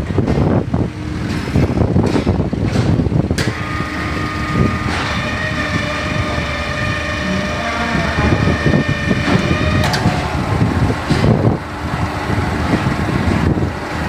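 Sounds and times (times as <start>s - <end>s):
block making machine running: 0.0s - 14.0s
conveyor clattering and knocking: 0.0s - 14.0s
steady multi-tone hum: 0.0s - 14.0s.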